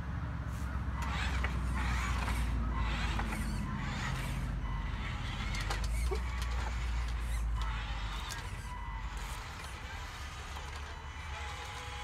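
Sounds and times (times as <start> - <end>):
toy truck motor rumbling: 0.6 - 12.0
short squeaky rasping sounds: 1.0 - 12.0.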